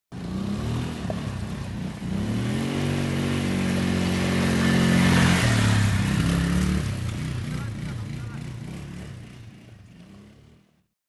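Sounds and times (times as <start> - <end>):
quad bike engine revving: 0.2 - 10.8.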